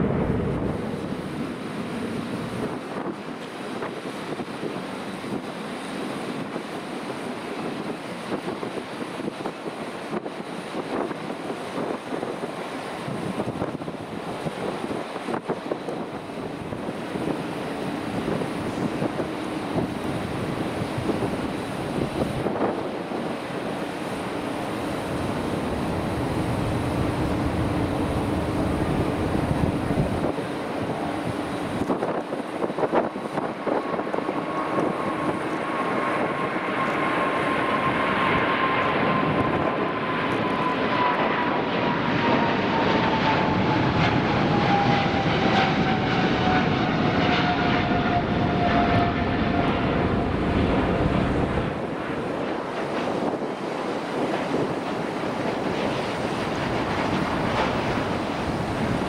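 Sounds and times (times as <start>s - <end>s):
jet engines rumbling with whine: 0.0s - 59.0s.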